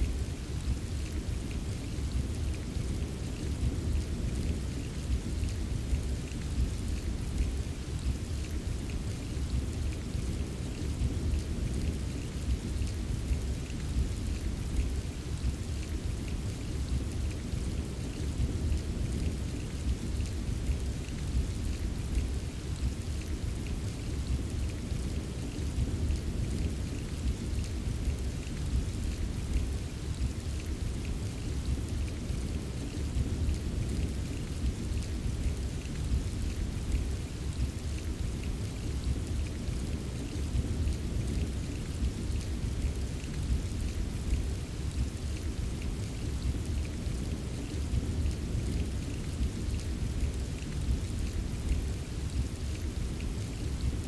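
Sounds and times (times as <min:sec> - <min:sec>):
rain hiss: 0:00.0 - 0:54.0
raindrop ticks: 0:00.0 - 0:54.0.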